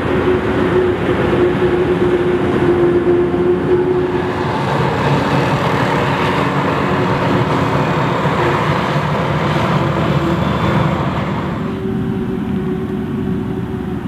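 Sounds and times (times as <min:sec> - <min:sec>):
tyres churning mud: 0:00.0 - 0:11.7
tractor diesel engines under load: 0:00.0 - 0:14.0.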